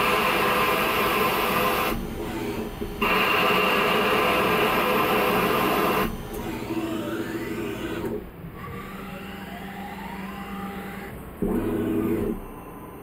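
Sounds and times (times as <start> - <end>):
lathe tool cutting metal: 0.0 - 12.7
axis drives whining: 0.0 - 13.0.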